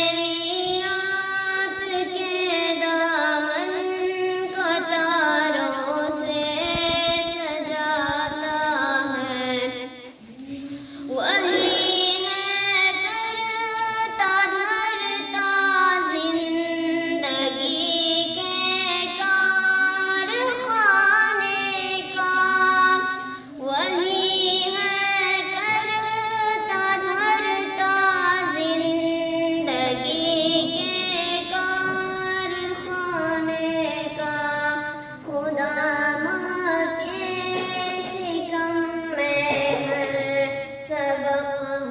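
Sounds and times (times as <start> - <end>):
person singing devotional hymn: 0.0 - 41.9.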